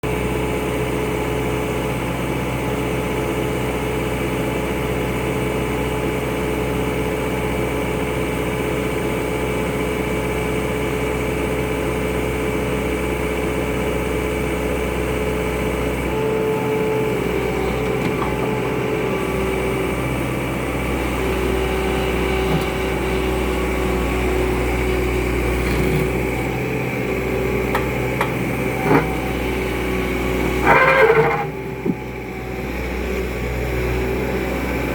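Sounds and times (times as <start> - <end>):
loader engine running: 0.0 - 34.9.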